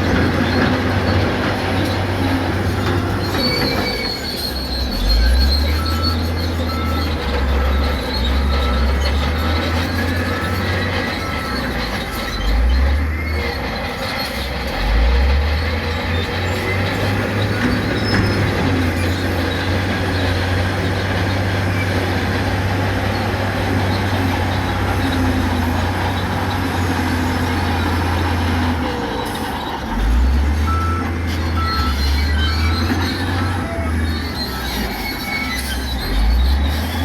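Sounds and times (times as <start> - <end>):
diesel machinery engine: 0.0 - 37.0.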